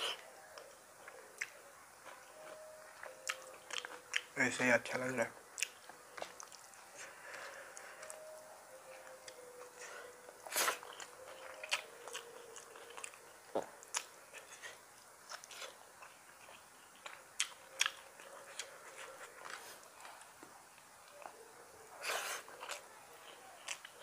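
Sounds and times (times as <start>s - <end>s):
person chewing food: 0.0s - 4.4s, 5.5s - 24.0s.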